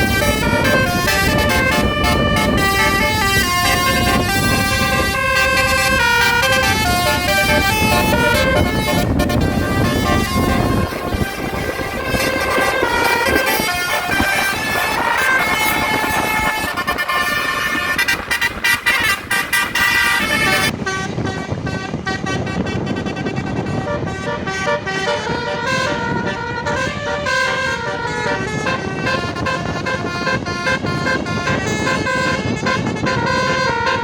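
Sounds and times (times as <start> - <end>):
bus engine rumbling: 0.0 - 34.0
musical bus horns playing a tune: 0.0 - 34.0.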